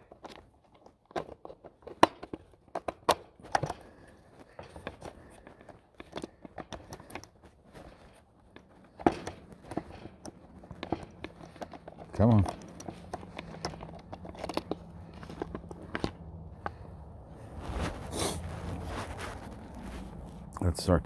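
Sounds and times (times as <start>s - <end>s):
plastic and metal parts clicking: 0.0s - 17.1s.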